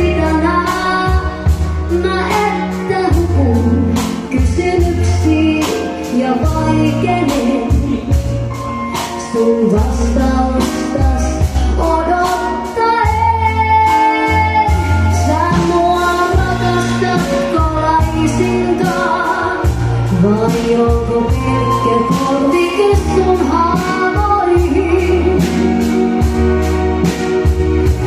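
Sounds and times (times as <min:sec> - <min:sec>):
woman singing into a microphone: 0:00.0 - 0:26.2
band playing drums and keyboards: 0:00.0 - 0:28.0.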